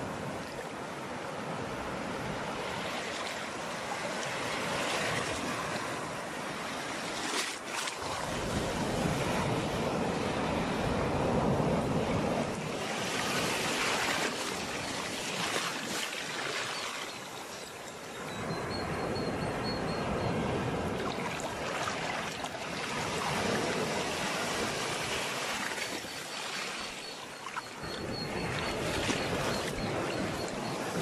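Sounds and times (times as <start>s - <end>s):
sea waves washing ashore: 0.0s - 31.0s.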